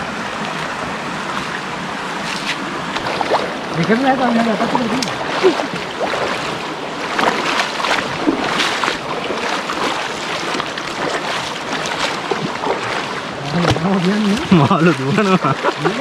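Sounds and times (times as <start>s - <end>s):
small water splashes: 0.0s - 16.0s
stream water rushing: 0.0s - 16.0s.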